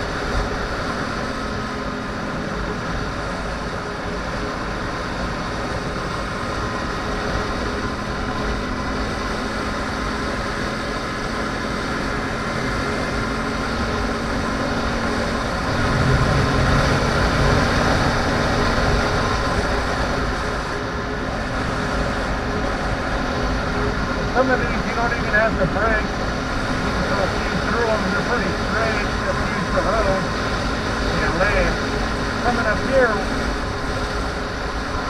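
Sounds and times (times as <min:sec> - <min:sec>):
motorcycle engine running: 0:00.0 - 0:35.0
wind and road rush: 0:00.0 - 0:35.0.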